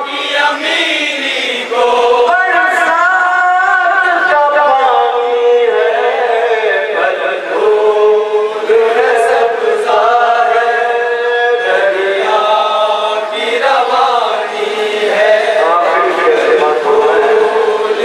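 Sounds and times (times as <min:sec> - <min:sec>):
men chanting a lament: 0:00.0 - 0:18.0.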